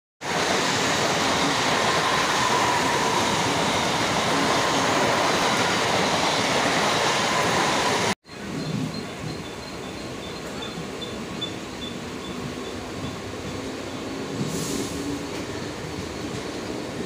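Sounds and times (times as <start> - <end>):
electric train passing fast: 0.2 - 17.0.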